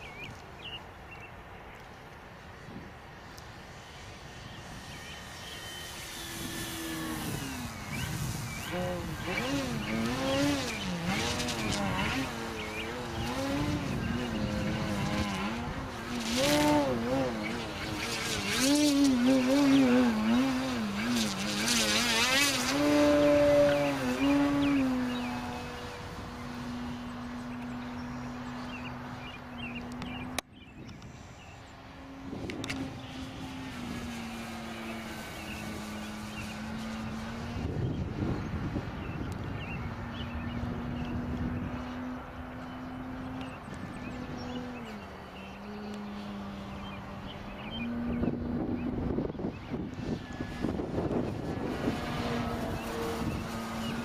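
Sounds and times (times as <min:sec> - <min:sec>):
electric motor and propeller drone: 0:00.0 - 0:54.0.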